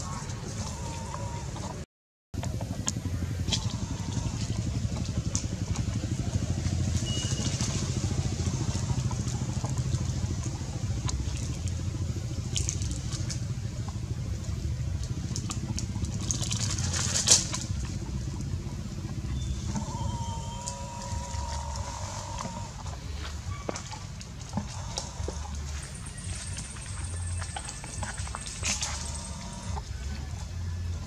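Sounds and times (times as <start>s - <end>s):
low rumble: 2.4s - 31.0s.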